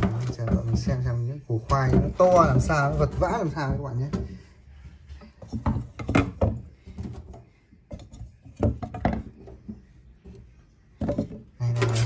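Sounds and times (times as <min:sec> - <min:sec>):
knocks and thumps: 0:00.0 - 0:04.6, 0:05.2 - 0:12.0.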